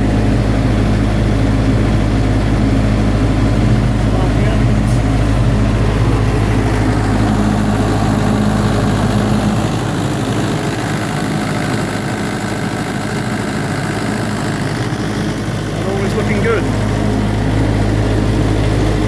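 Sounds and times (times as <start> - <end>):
diesel generator running: 0.0 - 19.0.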